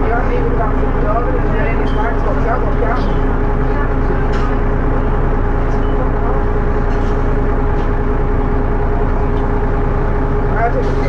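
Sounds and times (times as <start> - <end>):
bus engine rumbling with whine: 0.0 - 11.0.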